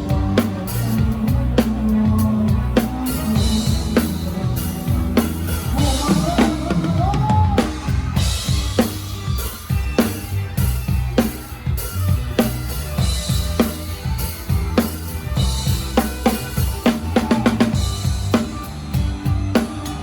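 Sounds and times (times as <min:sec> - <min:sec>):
bass line: 0:00.0 - 0:20.0
drum kit playing: 0:00.0 - 0:20.0.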